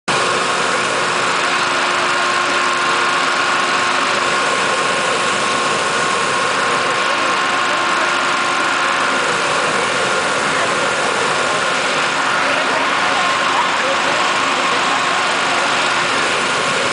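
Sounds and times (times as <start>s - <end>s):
propane burner roaring: 0.1s - 16.9s.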